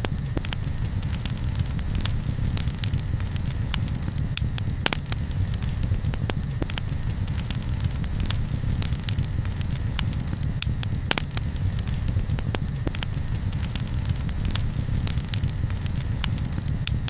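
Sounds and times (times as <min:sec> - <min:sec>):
campfire crackling: 0:00.0 - 0:17.0
low rumble: 0:00.0 - 0:17.0
sharp fire pops: 0:00.0 - 0:17.0.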